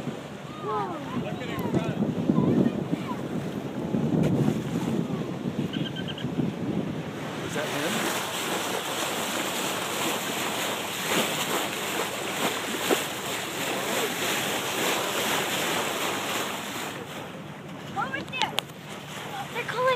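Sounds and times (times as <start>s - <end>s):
water rushing along boat bow: 0.0s - 19.9s
wind buffeting microphone: 0.0s - 19.9s.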